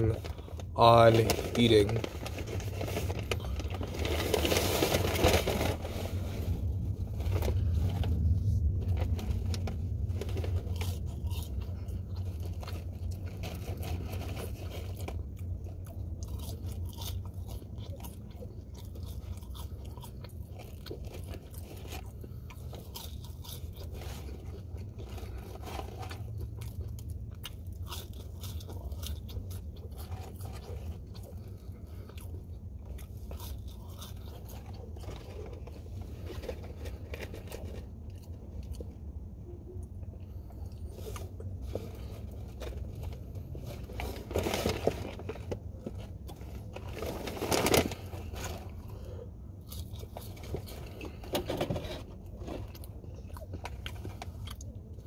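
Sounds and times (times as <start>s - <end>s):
chewing and crunching food: 0.0s - 55.0s
steady low hum: 0.0s - 55.0s.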